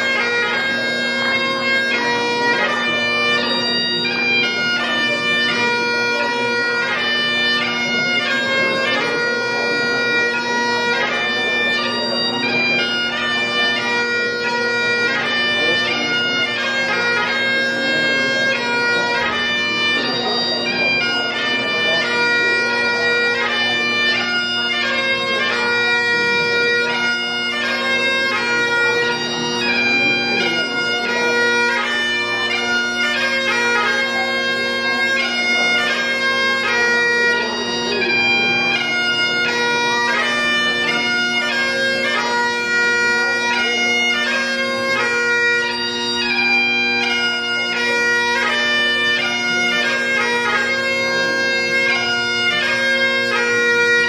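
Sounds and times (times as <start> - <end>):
bagpipe playing: 0.0 - 54.0.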